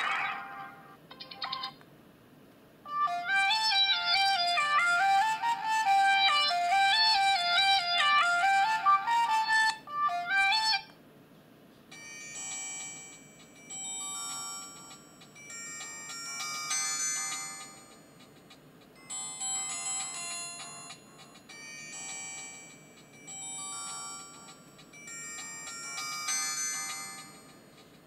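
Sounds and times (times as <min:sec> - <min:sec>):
phone ringtone melody: 0:02.9 - 0:10.9, 0:12.0 - 0:18.0, 0:19.0 - 0:27.6.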